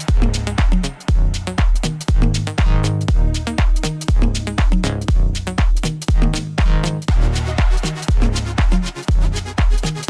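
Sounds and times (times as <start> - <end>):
kick drum: 0.0 - 10.0
pulsing bass line: 0.0 - 10.0.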